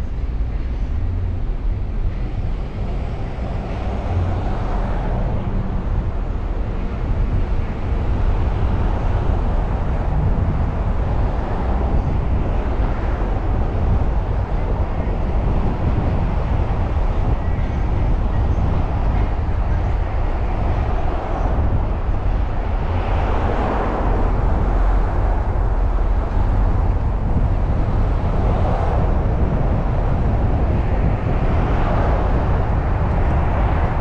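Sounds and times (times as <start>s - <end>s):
car road noise rumble: 0.0s - 34.0s.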